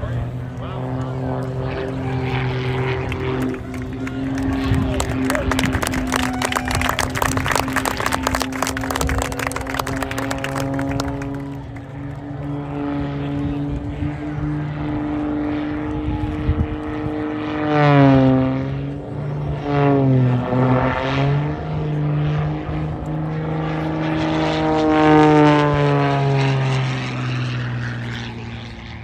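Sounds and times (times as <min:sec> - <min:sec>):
propeller plane engine at high power: 0:00.0 - 0:29.0.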